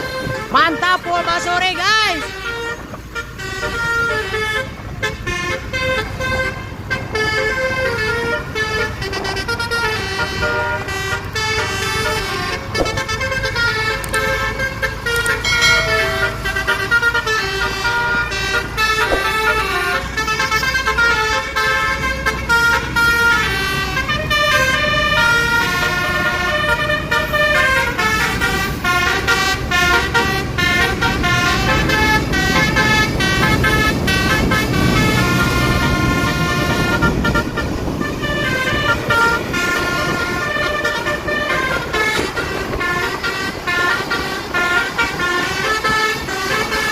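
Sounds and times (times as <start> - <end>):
bus engines and traffic rumble: 0.0 - 46.9
melodic bus horn tune: 0.0 - 46.9.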